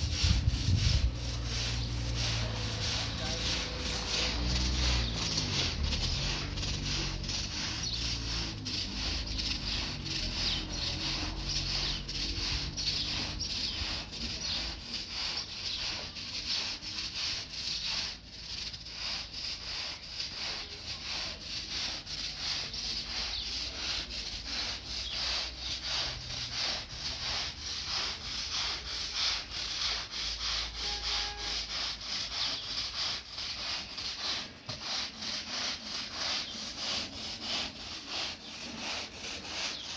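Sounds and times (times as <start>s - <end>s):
rhythmic rubbing strokes: 0.0s - 39.9s.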